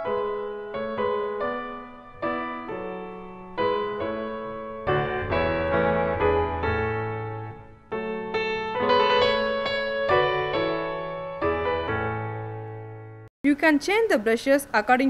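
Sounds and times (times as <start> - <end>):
deep bass piano notes: 0.0 - 13.3
piano melody: 0.0 - 13.3.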